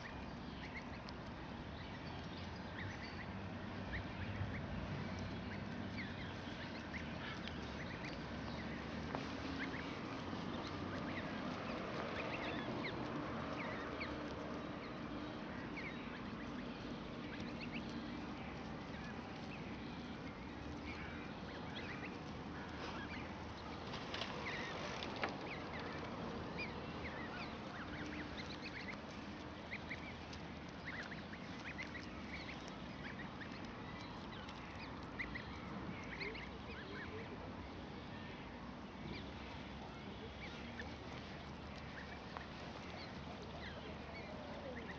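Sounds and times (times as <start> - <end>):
goslings peeping: 0.0 - 44.9.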